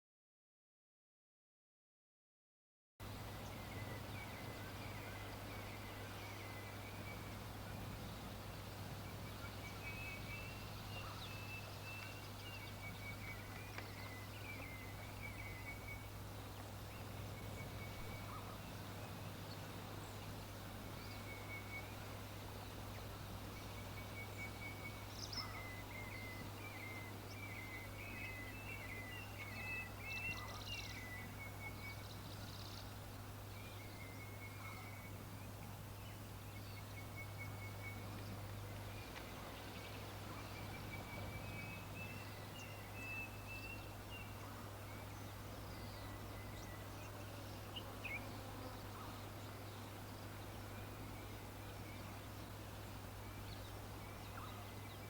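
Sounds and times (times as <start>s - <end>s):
small birds chirping: 3.0s - 55.0s.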